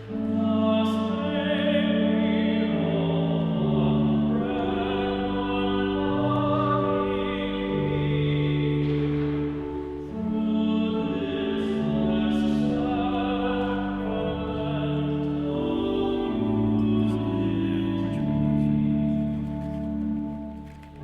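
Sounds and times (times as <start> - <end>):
hymn singing over held chords: 0.0 - 21.0.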